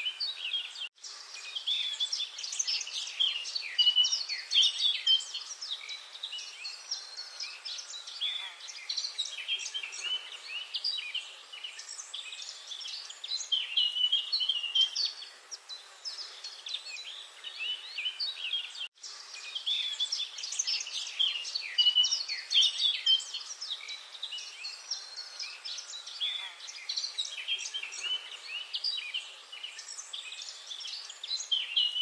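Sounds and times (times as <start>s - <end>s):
small birds chirping and twittering: 0.0s - 32.0s.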